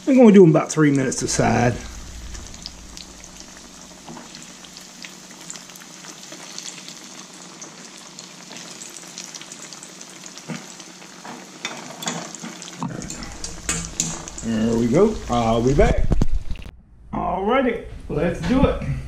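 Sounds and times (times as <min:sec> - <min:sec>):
food sizzling in hot oil: 0:01.1 - 0:16.7.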